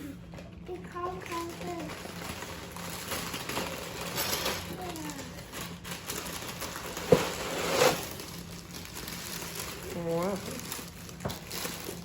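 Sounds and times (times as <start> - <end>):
packaging crinkling and rustling: 0.4 - 12.0.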